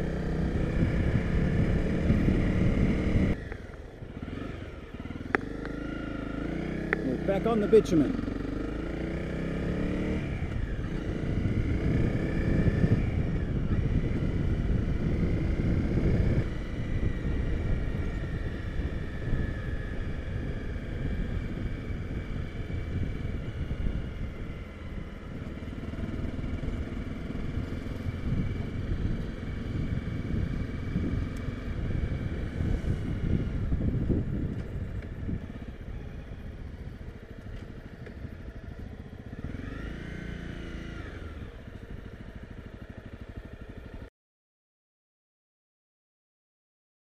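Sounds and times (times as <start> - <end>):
motorcycle engine running: 0.0 - 44.1
wind and road noise: 0.0 - 44.1.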